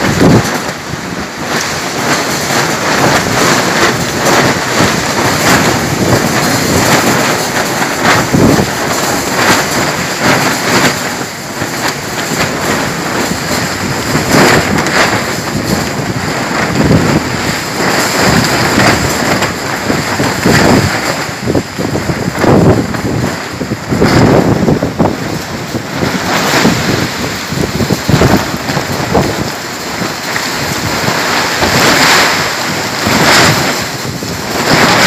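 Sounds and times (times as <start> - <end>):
heavy rain: 0.0 - 35.0
wind gusts thrashing trees: 0.0 - 35.0.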